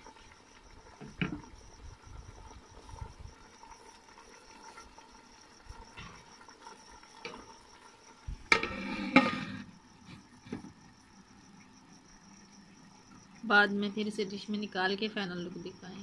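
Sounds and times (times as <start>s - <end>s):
pot simmering hiss: 0.0s - 16.0s.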